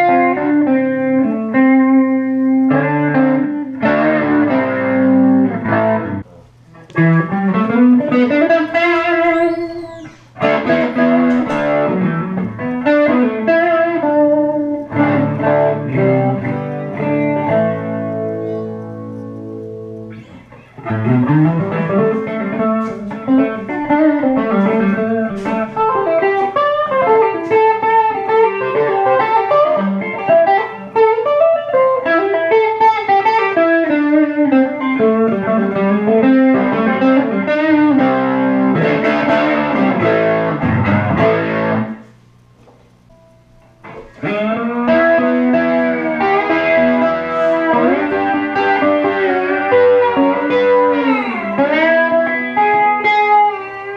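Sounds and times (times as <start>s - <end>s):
electric guitar through rotating speaker: 0.0s - 53.9s.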